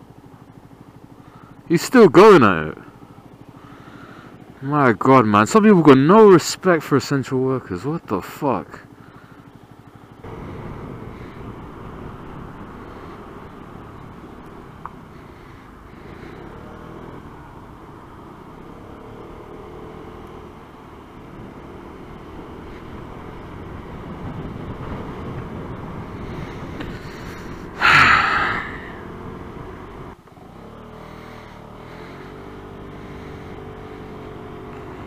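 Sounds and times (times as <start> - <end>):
motorcycle engine running: 0.0 - 6.7, 7.4 - 35.0.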